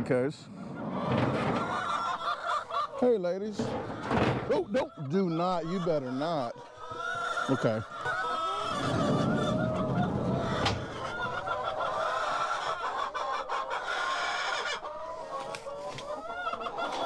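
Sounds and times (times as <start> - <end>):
hens clucking and squawking: 0.1 - 17.0.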